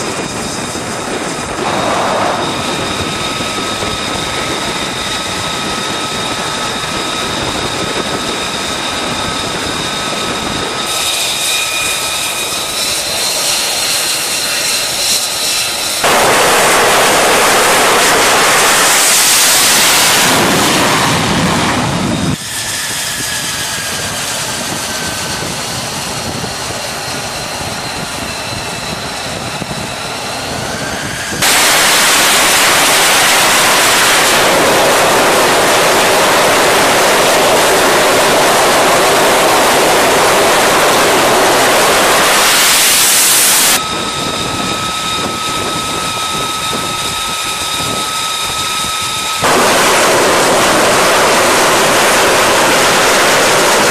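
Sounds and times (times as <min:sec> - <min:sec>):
jet engine roar: 0:00.0 - 0:53.9
whistling turbine whine: 0:00.0 - 0:53.9.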